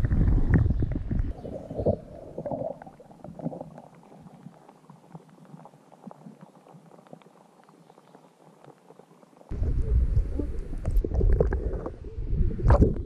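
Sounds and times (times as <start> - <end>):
faint ticks and crackles: 0.0 - 12.0
muffled underwater sound: 0.0 - 13.0.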